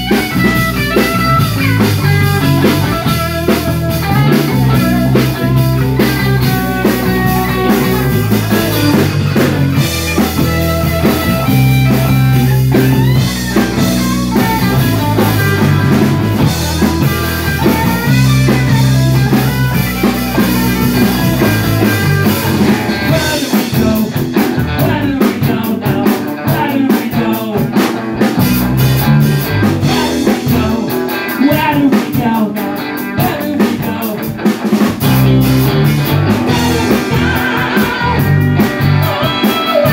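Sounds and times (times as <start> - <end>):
lead guitar with bent notes: 0.0 - 26.5, 27.2 - 31.7, 32.6 - 39.9
drum kit: 0.0 - 39.9
live blues-rock band playing: 0.0 - 39.9.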